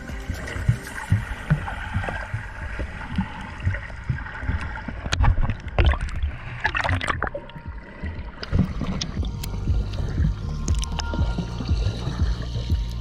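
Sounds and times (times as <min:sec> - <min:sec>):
crackling bubbles: 0:00.0 - 0:13.0
water sloshing and gurgling: 0:00.0 - 0:13.0.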